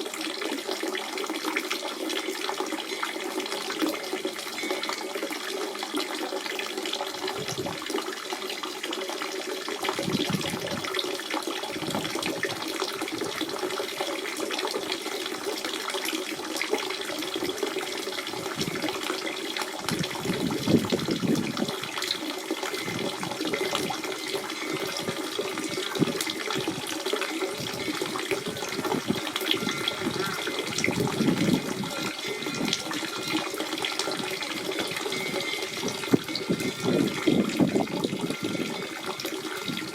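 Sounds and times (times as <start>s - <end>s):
spring water gurgling: 0.0s - 39.9s.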